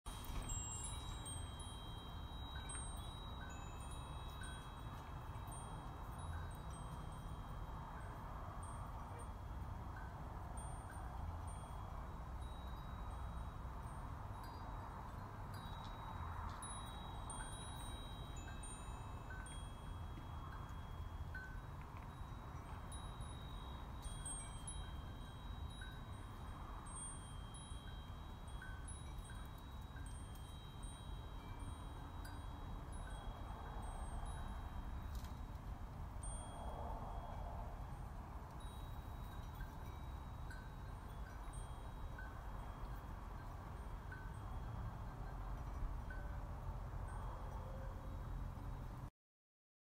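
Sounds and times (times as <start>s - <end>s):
wind chime ringing: 0.1s - 49.0s.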